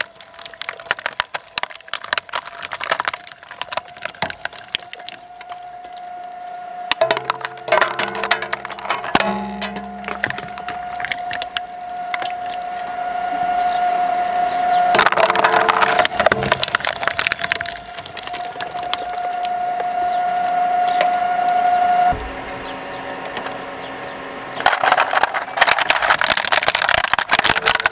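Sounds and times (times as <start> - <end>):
shredder crunching hard plastic: 0.0 - 13.8, 14.4 - 21.2, 24.5 - 27.9
shredder motor whine: 0.0 - 27.9.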